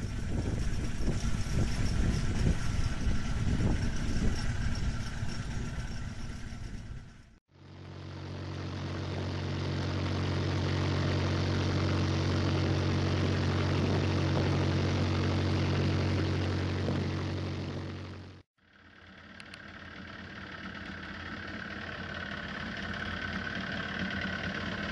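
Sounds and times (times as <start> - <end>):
boat engine humming: 0.0 - 24.9.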